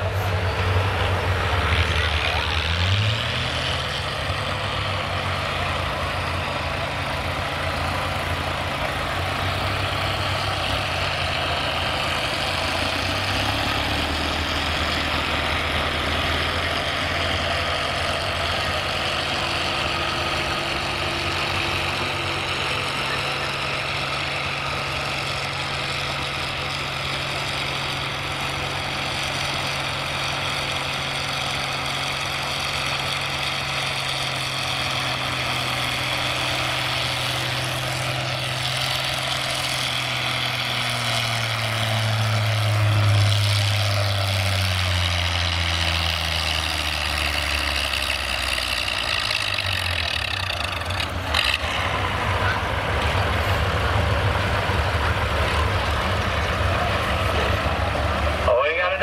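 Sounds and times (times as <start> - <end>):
tractor engine running at high revs: 0.0 - 59.0.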